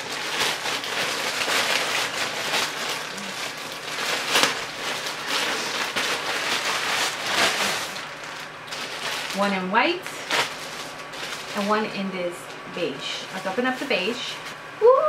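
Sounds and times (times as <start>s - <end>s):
plastic mailer crinkling: 0.0s - 14.6s
plastic ripping: 0.0s - 14.6s.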